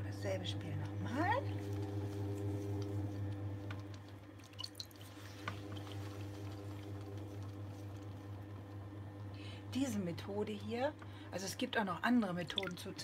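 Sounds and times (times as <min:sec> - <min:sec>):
potter's wheel humming: 0:00.0 - 0:13.0.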